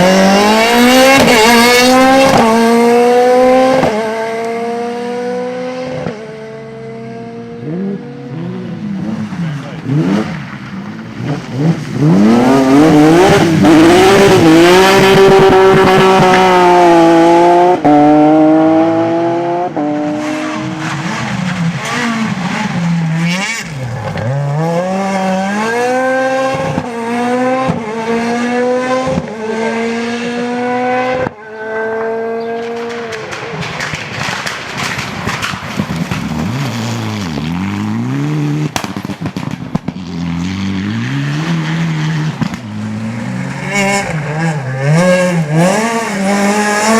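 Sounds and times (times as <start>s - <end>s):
rally car engine revving: 0.0s - 46.9s.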